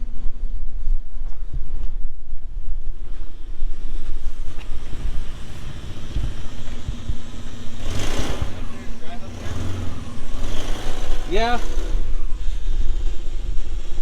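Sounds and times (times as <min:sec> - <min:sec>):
wind buffeting microphone: 0:00.0 - 0:14.0
vehicle engine idling: 0:00.1 - 0:14.0.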